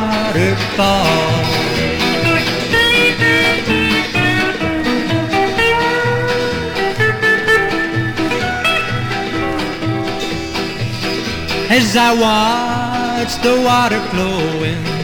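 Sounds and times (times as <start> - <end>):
bass and rhythm backing: 0.0 - 15.0
plucked guitar melody: 0.0 - 15.0.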